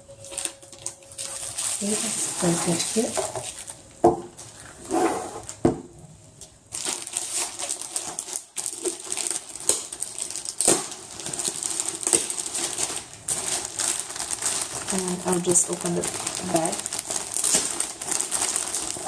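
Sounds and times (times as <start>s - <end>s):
packaging rustling and crinkling: 0.0s - 5.6s, 6.4s - 19.0s.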